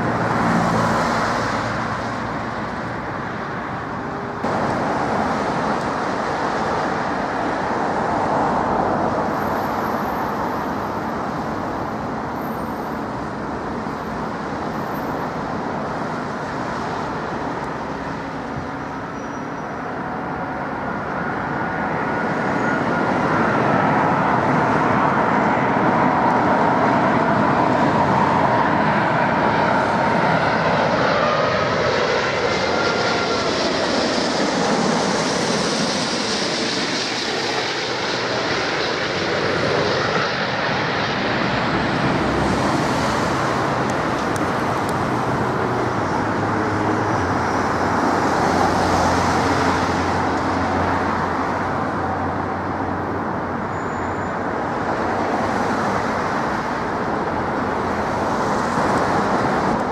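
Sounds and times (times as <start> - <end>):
engine fan whine: 0.0 - 53.8
jet engines roaring: 0.0 - 59.9.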